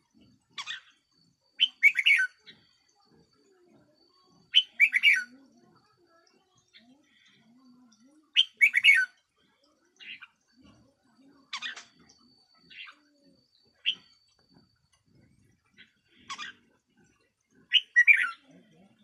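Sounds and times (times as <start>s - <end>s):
bird chirping: 0.1s - 3.2s, 3.8s - 5.4s, 6.4s - 19.0s.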